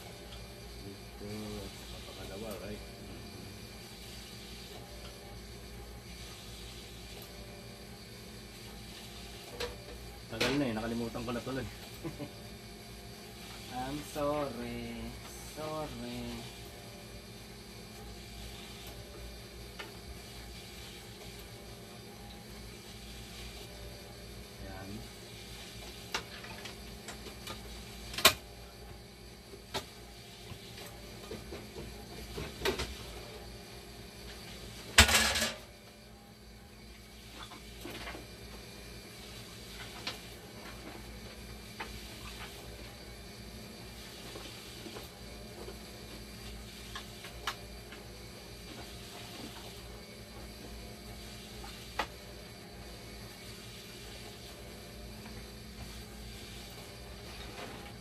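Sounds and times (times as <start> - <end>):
steady hum and hiss: 0.0 - 58.0.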